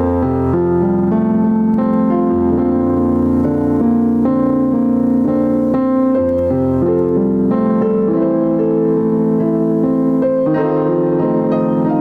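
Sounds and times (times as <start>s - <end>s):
keyboard playing sustained chords: 0.0s - 12.0s.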